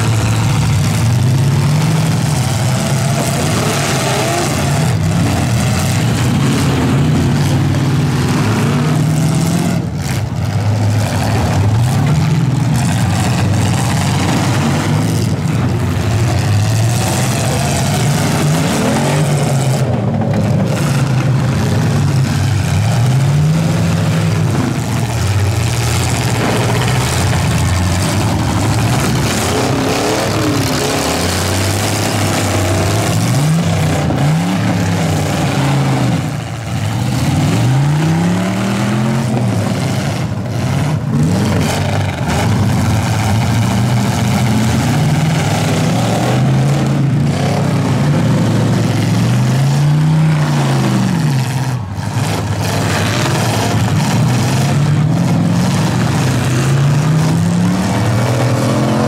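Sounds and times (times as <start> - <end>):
loud steady din: 0.0 - 59.0
truck engines revving: 0.0 - 59.0.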